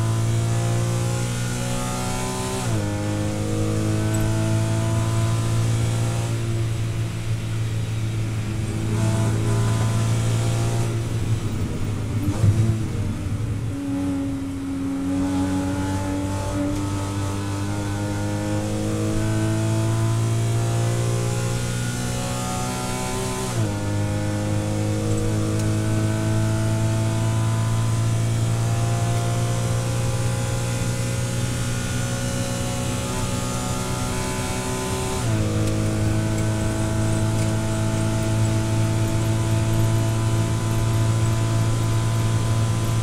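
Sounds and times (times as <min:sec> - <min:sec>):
race car engine revving: 0:00.0 - 0:07.4, 0:08.3 - 0:43.0.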